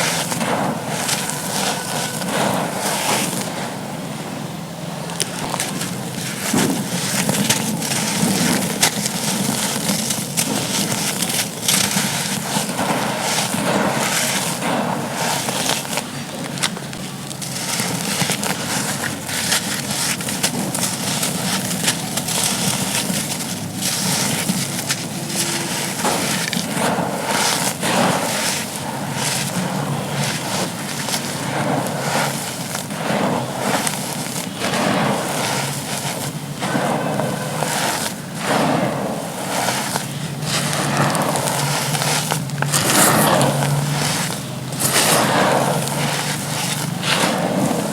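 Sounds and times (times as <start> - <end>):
charcoal being crushed: 0.0 - 4.1, 4.7 - 47.9.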